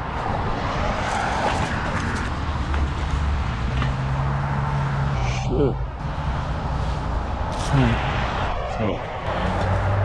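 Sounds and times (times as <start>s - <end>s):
vehicle rumbling: 0.0s - 10.0s.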